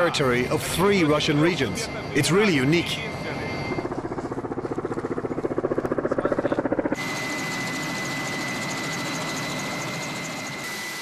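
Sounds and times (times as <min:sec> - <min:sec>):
engine drone with high whine: 0:00.0 - 0:11.0
helicopter rotor thudding: 0:00.6 - 0:10.6.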